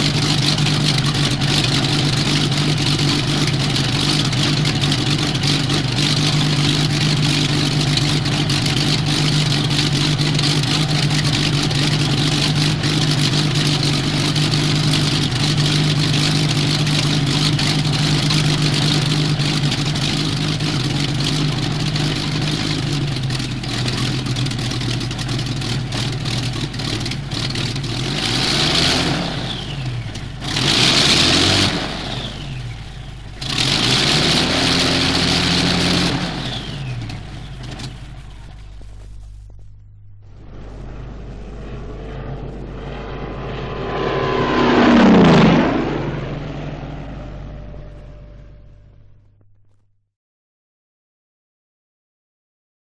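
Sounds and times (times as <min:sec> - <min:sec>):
aircraft engine droning: 0:00.0 - 0:49.5.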